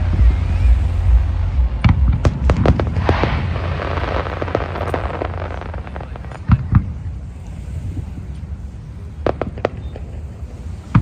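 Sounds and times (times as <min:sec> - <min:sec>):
fireworks bangs: 0:00.0 - 0:11.0
fireworks crackling and hissing: 0:00.0 - 0:11.0.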